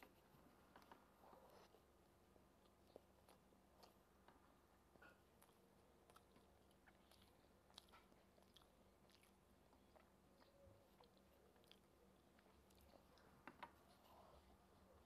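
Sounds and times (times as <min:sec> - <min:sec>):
faint chewing: 0:00.0 - 0:15.0
low steady hum: 0:00.0 - 0:15.0.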